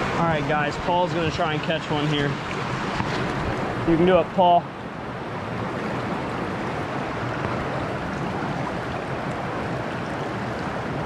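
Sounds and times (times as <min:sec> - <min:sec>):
creek water running over rocks: 0:00.0 - 0:11.0.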